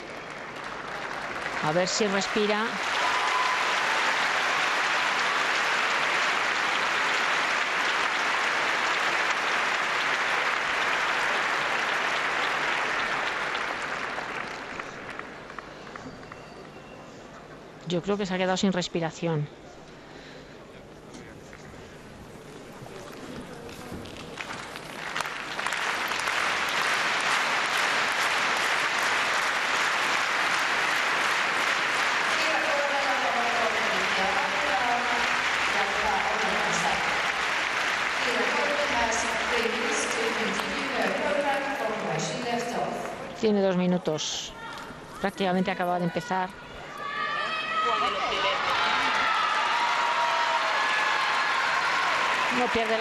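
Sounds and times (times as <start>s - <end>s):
audience applauding: 0.0s - 16.7s, 21.5s - 43.3s, 47.0s - 53.0s.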